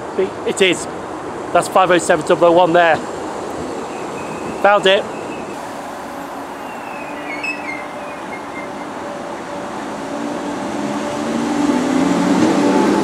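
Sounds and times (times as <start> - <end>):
electric train rolling past: 1.0 - 13.0.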